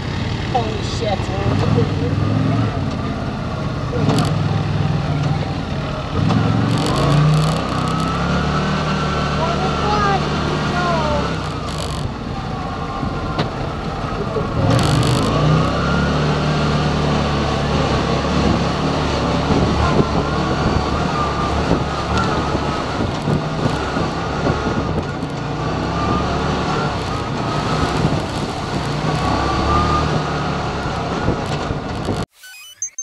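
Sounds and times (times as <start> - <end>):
vehicle engine running: 0.0 - 32.1
drivetrain whine: 0.0 - 33.0.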